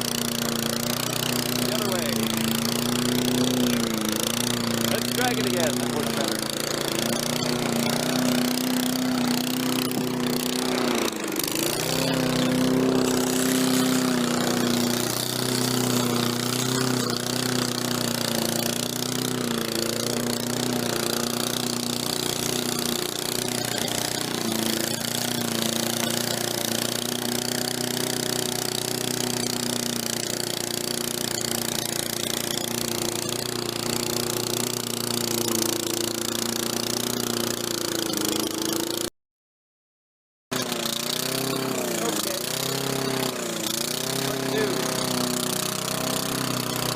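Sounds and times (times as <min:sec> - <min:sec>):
lawn mower engine running: 0:00.0 - 0:39.1, 0:40.5 - 0:46.9
mower pushed through snow: 0:00.0 - 0:39.1, 0:40.5 - 0:46.9.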